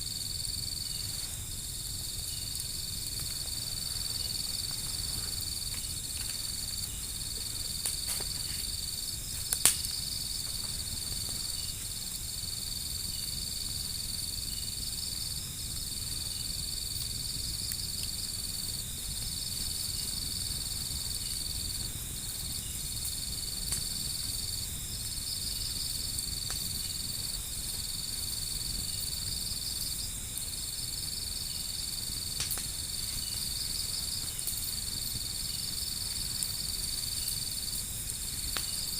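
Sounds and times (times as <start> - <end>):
crickets trilling: 0.0 - 38.9
wood fire popping: 0.1 - 38.9.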